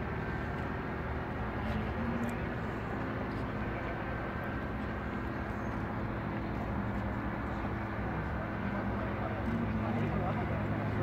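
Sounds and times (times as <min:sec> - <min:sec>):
light aircraft engine humming: 0:00.0 - 0:11.0.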